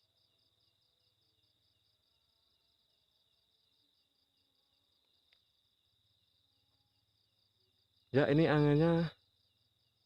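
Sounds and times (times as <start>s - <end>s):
night insects chirring: 0.0s - 10.0s.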